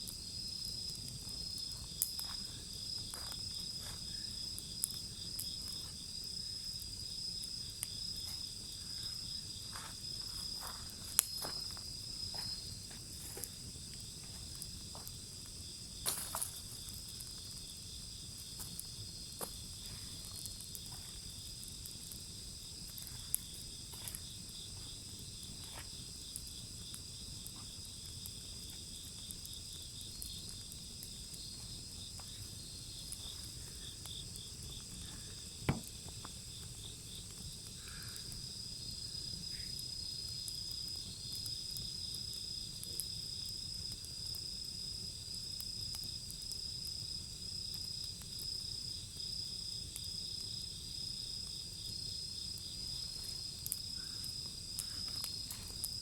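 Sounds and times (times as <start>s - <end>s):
insects chirping: 0.0s - 56.0s
wood fire crackling and popping: 0.0s - 56.0s.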